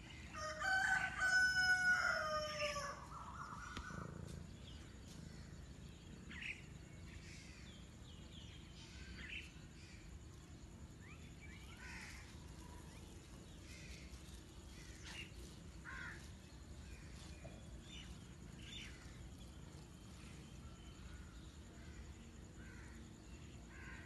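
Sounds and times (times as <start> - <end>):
bird calls and chirps: 2.7 - 22.1.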